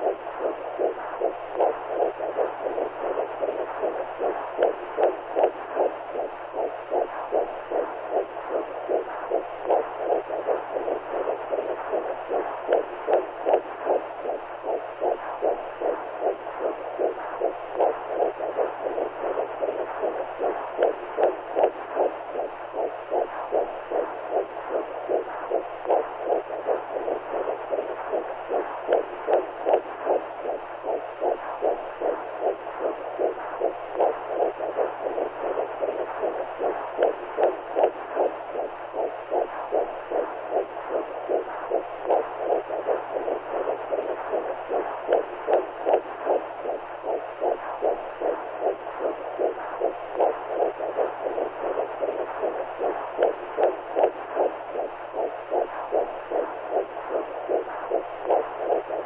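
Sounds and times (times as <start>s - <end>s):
faint low hum: 0.0s - 59.0s
heartbeat-like beat: 0.0s - 59.0s.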